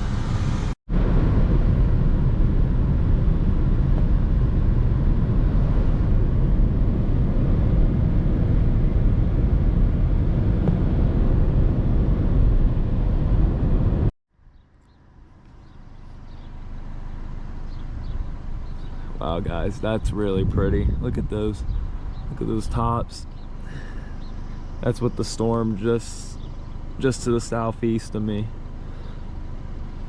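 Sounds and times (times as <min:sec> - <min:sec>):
car road and wind noise: 0:00.0 - 0:30.0.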